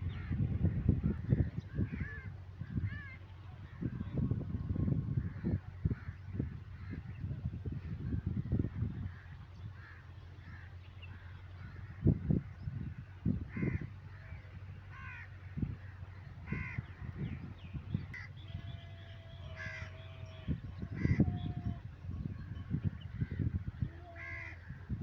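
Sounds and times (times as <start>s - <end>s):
bird cawing: 0.0s - 4.0s, 7.9s - 22.0s, 22.6s - 25.0s.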